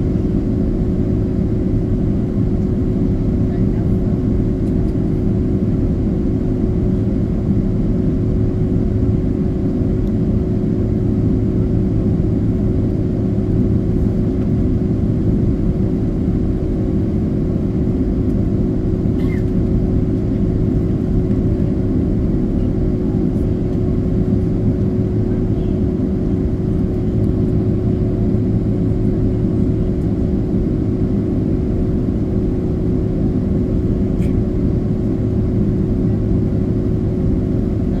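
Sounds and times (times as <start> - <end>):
airliner cabin engine drone: 0.0 - 38.0.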